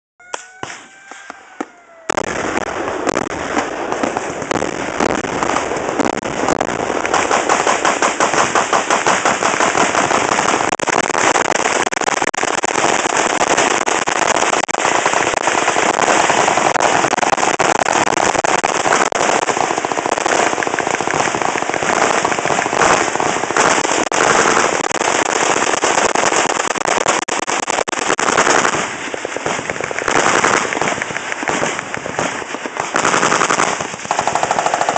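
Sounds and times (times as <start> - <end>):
machine guns firing: 2.1 - 34.9.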